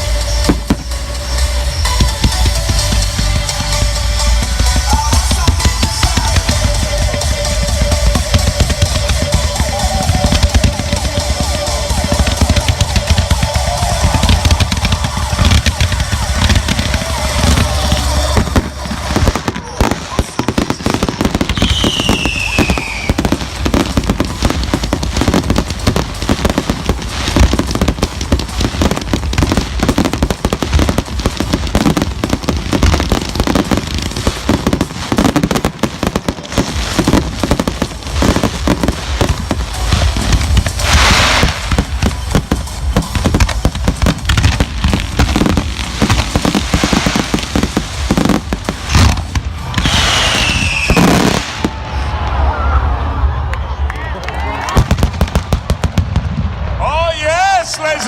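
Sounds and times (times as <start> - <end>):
whistling firework: 0.0 - 3.6, 4.7 - 56.8
fireworks bangs and crackling: 0.0 - 58.0
hissing crackle: 4.5 - 51.8.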